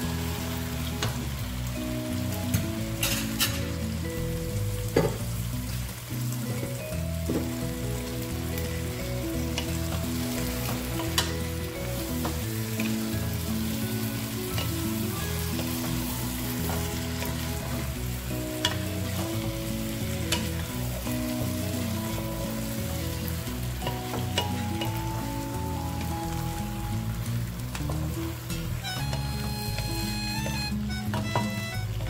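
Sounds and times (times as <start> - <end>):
background music melody: 0.0 - 32.0
squid sizzling in a pot: 0.0 - 32.0.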